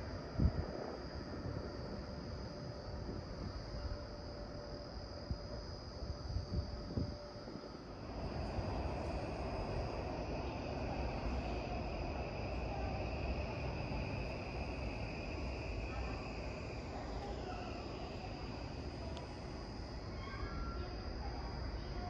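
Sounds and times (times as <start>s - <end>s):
train rumbling with high whine: 0.0s - 22.0s.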